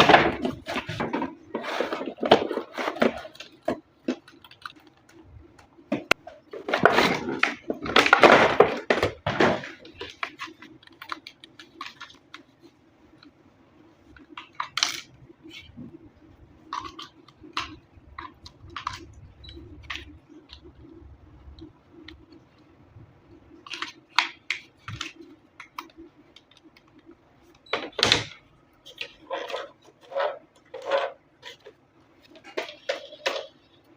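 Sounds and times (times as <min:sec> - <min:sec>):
faint steady hum: 0:00.0 - 0:33.9.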